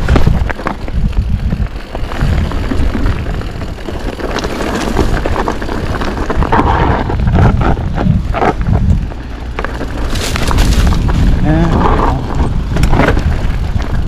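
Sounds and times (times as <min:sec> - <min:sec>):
bike knocking and rattling: 0:00.0 - 0:14.0
tyres on rock and dirt: 0:00.0 - 0:14.0
wind rumbling on microphone: 0:00.0 - 0:14.0.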